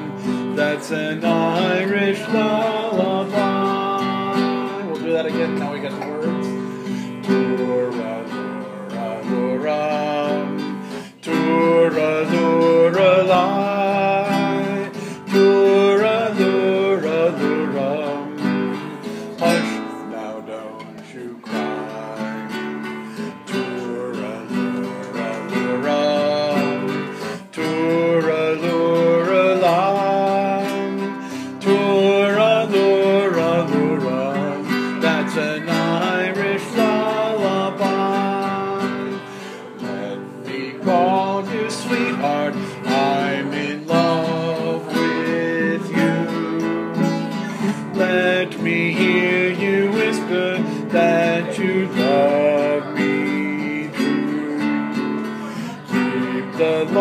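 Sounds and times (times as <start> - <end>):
classical guitar instrumental: 0.0 - 57.0.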